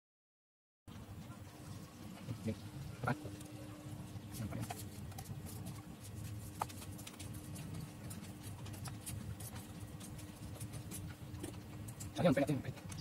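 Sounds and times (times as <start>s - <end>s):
low steady hum: 0.9s - 13.0s.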